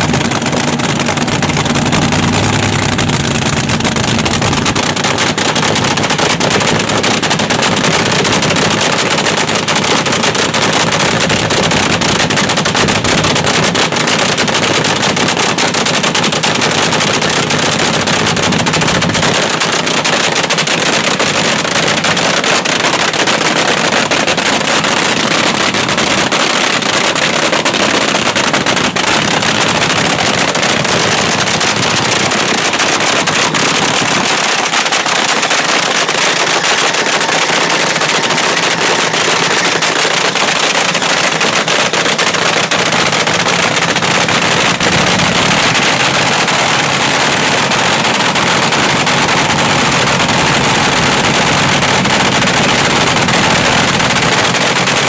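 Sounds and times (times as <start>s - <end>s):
dragster engine idling: 0.0s - 55.0s.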